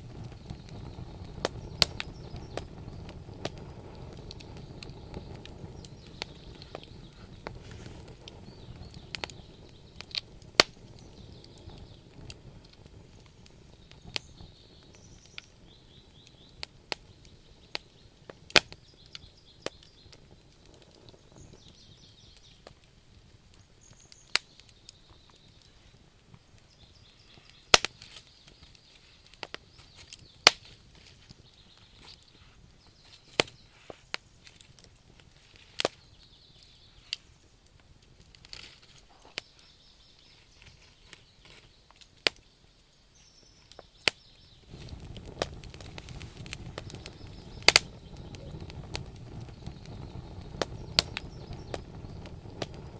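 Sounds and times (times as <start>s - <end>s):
low rush of flame: 0.0s - 40.6s, 44.4s - 52.9s
bonfire crackling and popping: 0.0s - 52.9s.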